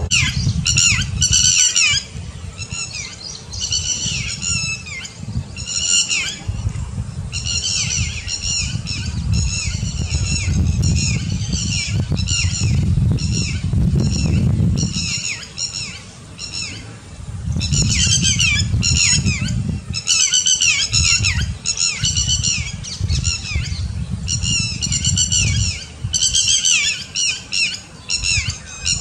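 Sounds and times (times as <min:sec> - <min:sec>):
low rumbling noise: 0:00.0 - 0:20.1, 0:20.8 - 0:27.2.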